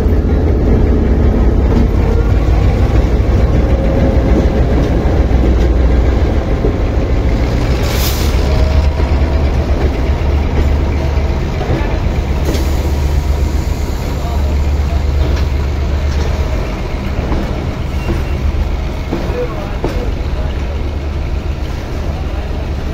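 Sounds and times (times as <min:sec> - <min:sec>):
diesel locomotive engines rumbling: 0:00.0 - 0:22.9.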